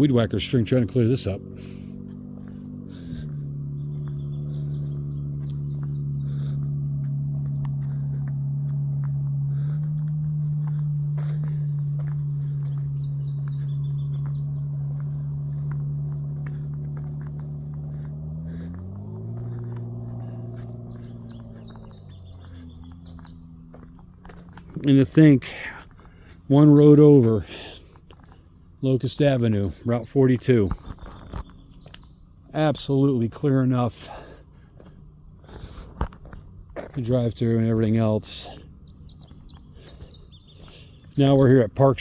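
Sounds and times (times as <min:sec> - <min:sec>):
birds chirping: 0:00.0 - 0:42.0
low engine-like drone: 0:00.0 - 0:42.0.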